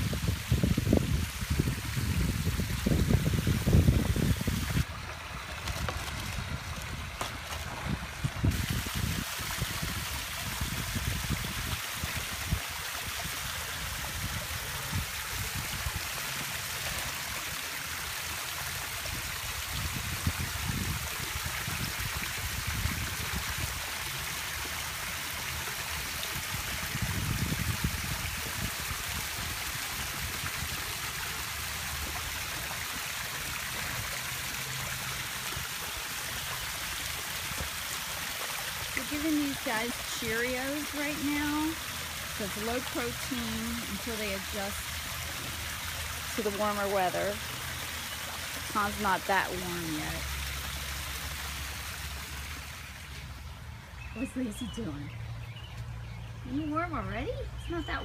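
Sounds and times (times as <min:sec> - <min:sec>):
waterfall splashing into pond: 0:00.0 - 0:58.0.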